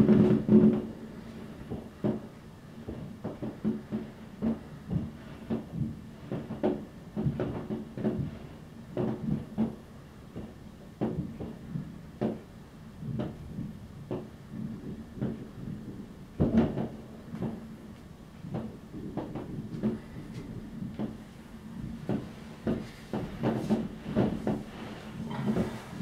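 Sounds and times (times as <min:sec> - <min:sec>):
distant fireworks bangs and pops: 0:00.0 - 0:26.0.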